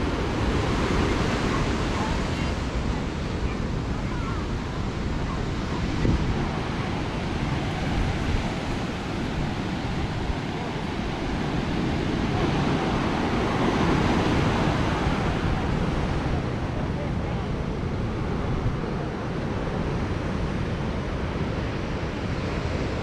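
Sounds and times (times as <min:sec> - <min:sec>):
surf breaking on beach: 0:00.0 - 0:23.0
wind on microphone: 0:00.0 - 0:23.0.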